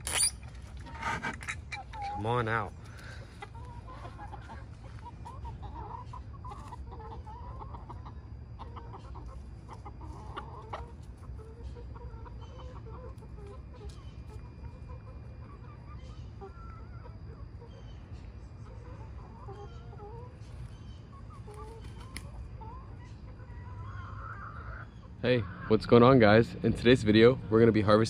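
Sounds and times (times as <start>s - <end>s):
chickens clucking: 0.7s - 28.0s.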